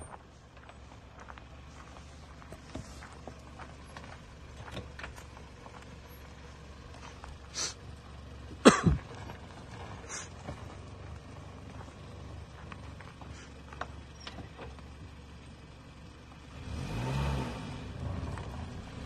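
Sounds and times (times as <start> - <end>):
off-road vehicle engine rumble: 0.0 - 19.0.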